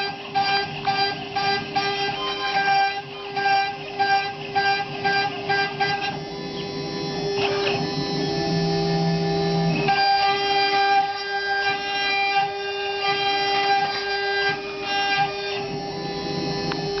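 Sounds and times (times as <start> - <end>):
metal cutting tones: 0.0 - 17.0
mill spindle high-pitched whine: 0.0 - 17.0.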